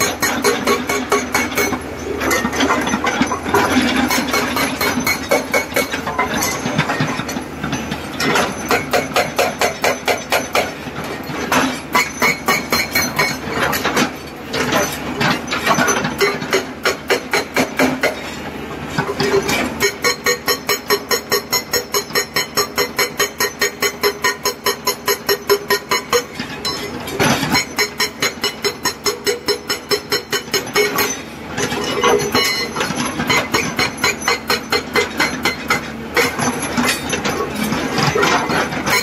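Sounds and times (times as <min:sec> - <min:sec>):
hydraulic rock breaker hammering: 0:00.0 - 0:39.0.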